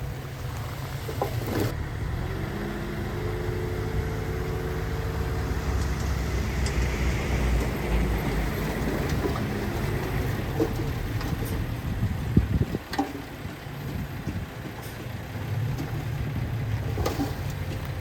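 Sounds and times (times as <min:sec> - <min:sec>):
diesel machinery engine rumble: 0:00.0 - 0:18.0.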